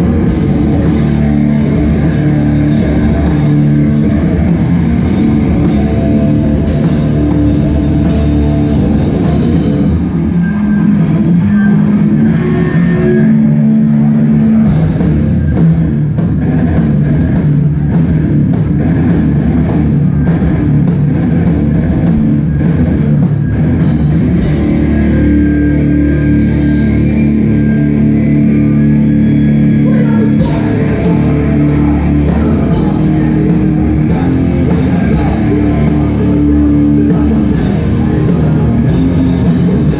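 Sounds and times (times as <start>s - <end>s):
drum kit: 0.0s - 12.5s, 14.0s - 39.9s
bass guitar: 0.0s - 39.9s
distorted electric guitars: 0.0s - 39.9s.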